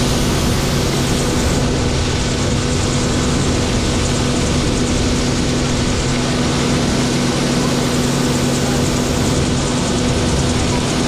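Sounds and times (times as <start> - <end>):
combine harvester humming: 0.0 - 11.0.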